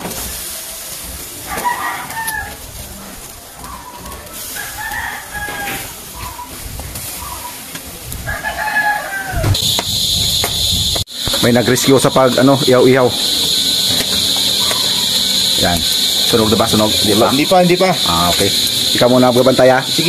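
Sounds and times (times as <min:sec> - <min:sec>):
rooster crowing: 0:01.4 - 0:03.0, 0:03.6 - 0:07.6, 0:08.2 - 0:11.0, 0:12.0 - 0:20.0.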